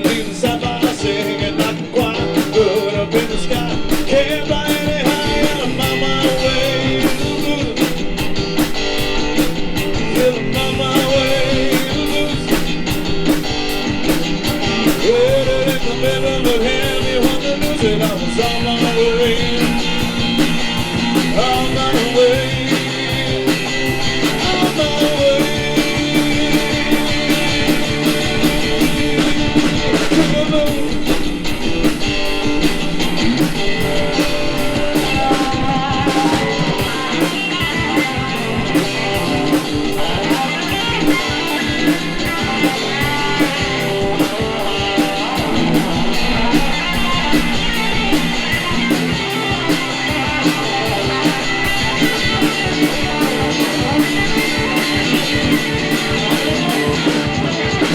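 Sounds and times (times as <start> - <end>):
guitar solo: 0.0 - 57.9
live blues band playing: 0.0 - 57.9.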